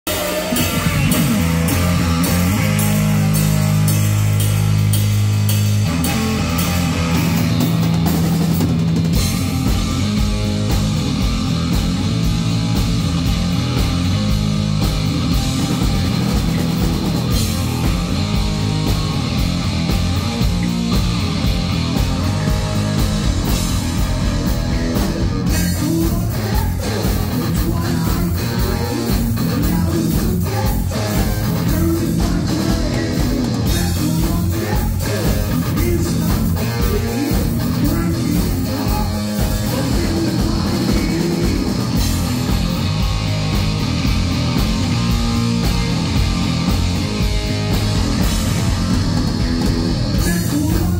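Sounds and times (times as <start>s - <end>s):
bass guitar: 0.0s - 50.9s
distorted electric guitars: 0.0s - 50.9s
drum kit: 0.0s - 50.9s.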